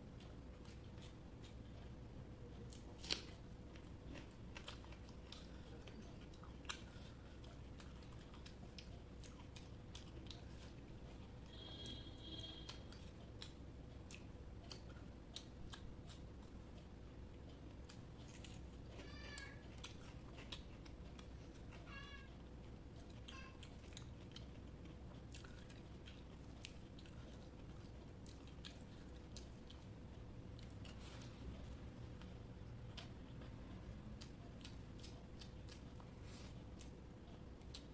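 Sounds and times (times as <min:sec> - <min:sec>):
chewing and wet mouth clicks: 0:02.6 - 0:10.8, 0:12.6 - 0:18.7, 0:19.4 - 0:21.9, 0:22.6 - 0:36.1, 0:36.8 - 0:37.9.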